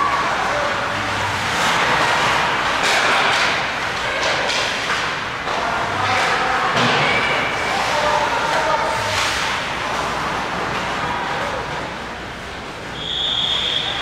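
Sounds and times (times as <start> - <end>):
skates and sticks scraping: 0.0 - 13.0
skating and arena noise: 0.0 - 14.0.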